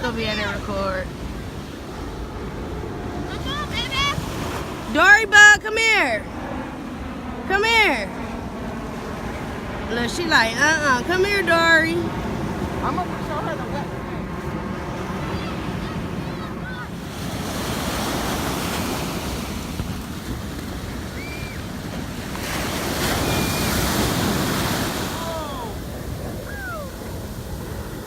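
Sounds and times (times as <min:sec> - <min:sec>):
ocean surf breaking on shore: 0:00.0 - 0:28.0
wind buffeting microphone: 0:00.0 - 0:28.0.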